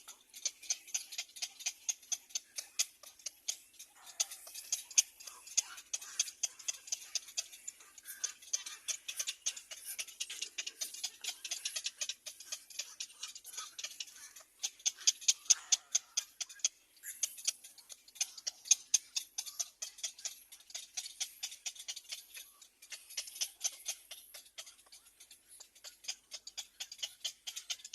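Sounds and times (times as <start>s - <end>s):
small birds chipping: 0.0s - 27.9s.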